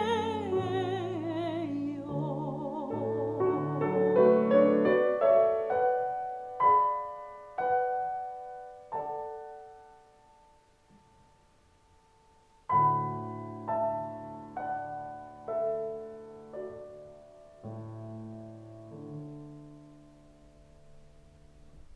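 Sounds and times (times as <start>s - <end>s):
solo piano chords: 0.0s - 21.9s.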